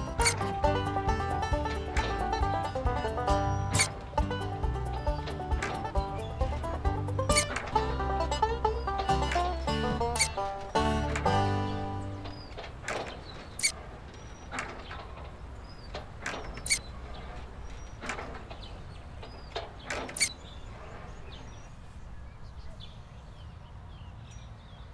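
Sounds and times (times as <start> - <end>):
birds chirping: 0.0 - 24.9
low rural background rumble: 0.0 - 24.9.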